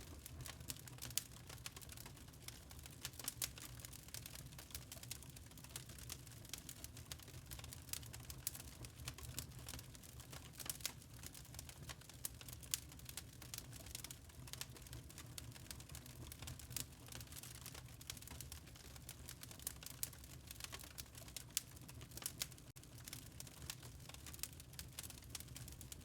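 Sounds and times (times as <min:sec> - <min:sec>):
log fire crackling in fireplace: 0:00.0 - 0:26.0.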